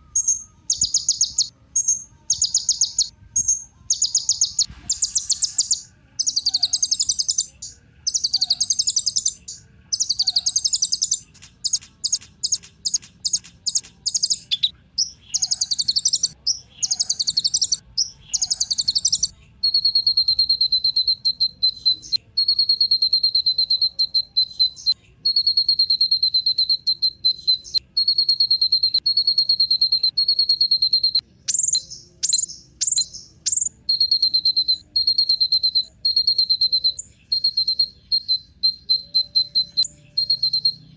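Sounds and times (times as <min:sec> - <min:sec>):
bird chattering phrases: 0:00.0 - 0:40.9
fast bird trill: 0:00.0 - 0:40.9.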